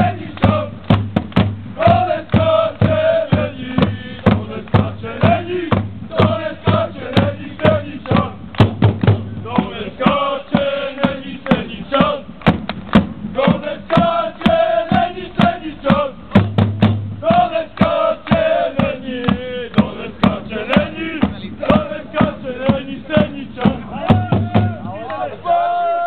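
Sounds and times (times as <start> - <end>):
fans chanting in unison: 0.0 - 1.0, 1.8 - 8.6, 9.3 - 12.4, 13.3 - 16.5, 17.2 - 26.0
repeated drumbeat: 0.0 - 25.1.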